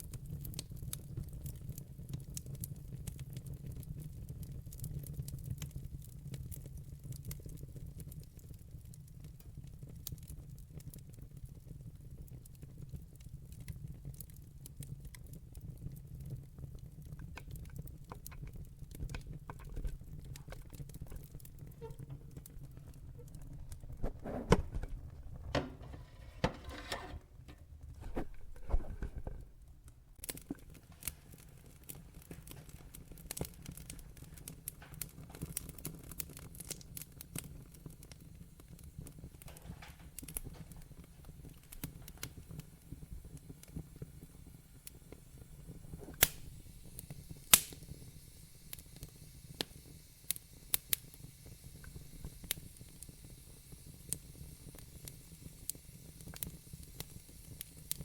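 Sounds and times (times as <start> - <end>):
log fire crackling and popping: 0.0 - 58.0.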